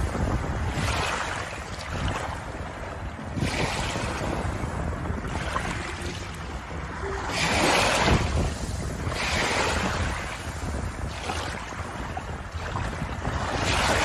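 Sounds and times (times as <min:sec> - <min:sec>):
ocean waves washing in: 0:00.0 - 0:14.0.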